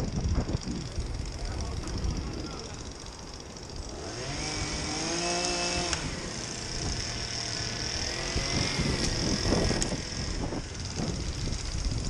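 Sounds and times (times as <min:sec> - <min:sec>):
chainsaw engine revving: 0:01.0 - 0:12.0.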